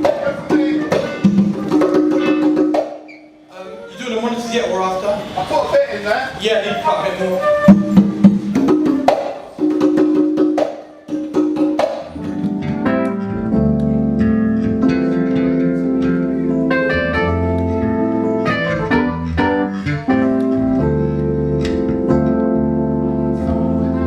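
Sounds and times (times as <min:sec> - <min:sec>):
band playing chords: 0:00.0 - 0:05.5, 0:06.4 - 0:24.0.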